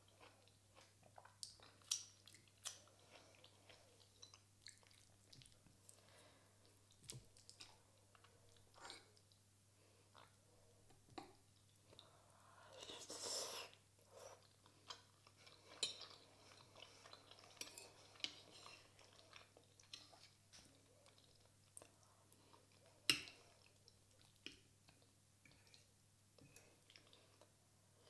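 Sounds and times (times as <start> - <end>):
person chewing soft food: 0.0 - 9.4, 10.0 - 28.0.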